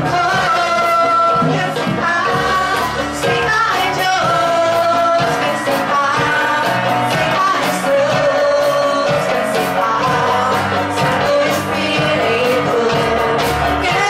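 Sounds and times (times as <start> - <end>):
worship song with singer and band: 0.0 - 14.0.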